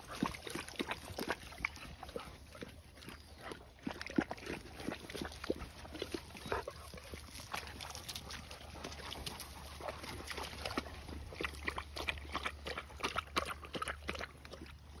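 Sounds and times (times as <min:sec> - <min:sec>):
dogs lapping water: 0:00.0 - 0:15.0
dogs splashing in water: 0:00.0 - 0:15.0.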